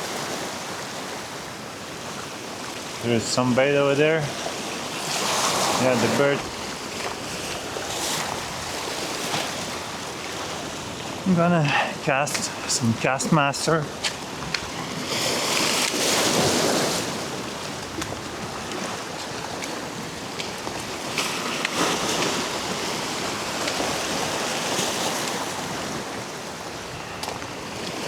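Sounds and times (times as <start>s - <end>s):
surf washing against a jetty: 0.0s - 28.0s.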